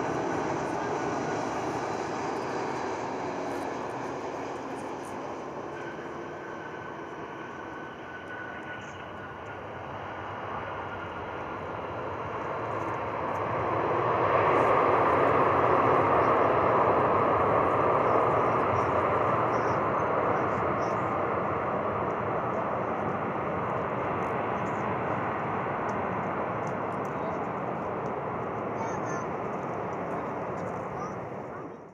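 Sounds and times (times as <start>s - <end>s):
jet engines roaring on landing: 0.0s - 31.9s.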